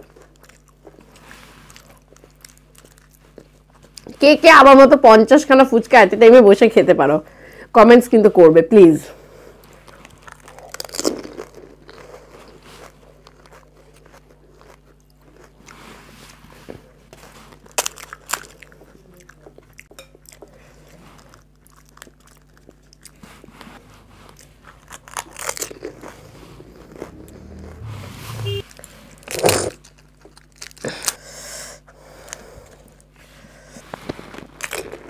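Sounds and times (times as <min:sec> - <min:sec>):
crunching and chewing: 0:00.0 - 0:04.2, 0:09.1 - 0:27.8, 0:28.6 - 0:35.0.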